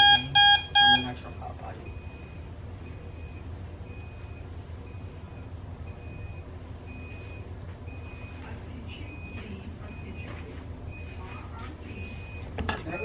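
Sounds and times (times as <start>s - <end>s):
low steady hum: 0.0s - 13.0s
medical alarm beeping: 0.0s - 13.0s.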